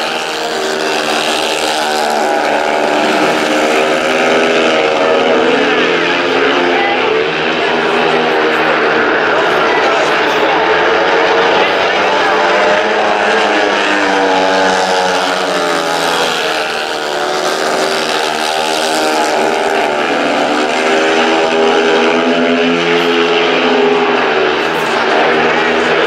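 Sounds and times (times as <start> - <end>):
motorcycle engines racing: 0.0 - 26.0.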